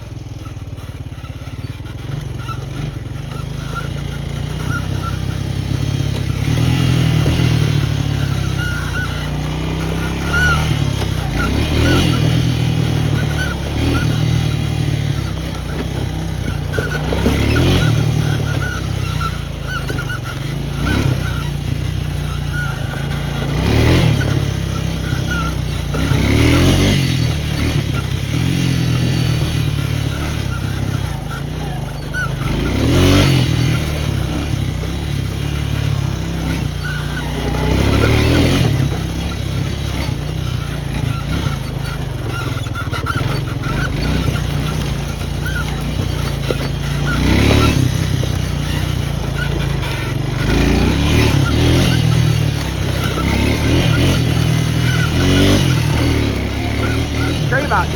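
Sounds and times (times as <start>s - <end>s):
off-road vehicle engine running: 0.0s - 57.9s.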